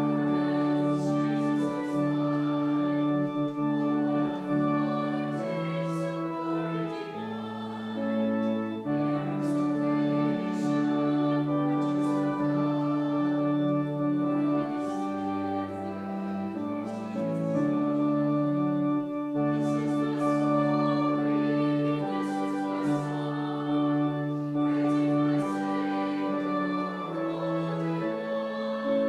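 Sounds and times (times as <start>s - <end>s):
church organ playing a hymn: 0.0s - 29.0s.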